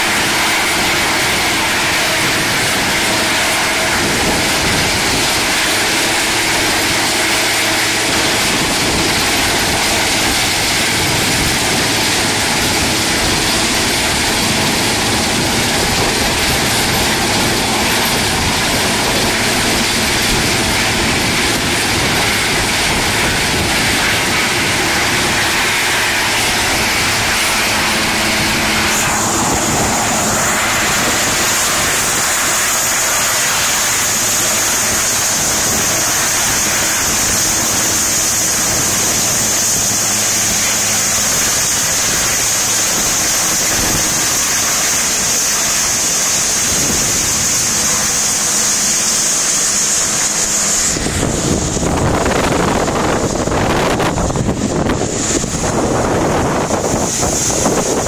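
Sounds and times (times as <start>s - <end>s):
helicopter engine and rotor: 0.0s - 58.0s
high steady whine: 0.0s - 58.0s
rushing hiss of surf: 0.0s - 58.0s.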